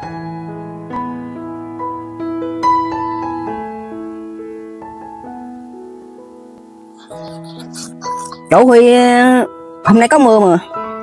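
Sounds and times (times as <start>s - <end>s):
gentle piano melody: 0.0s - 9.9s.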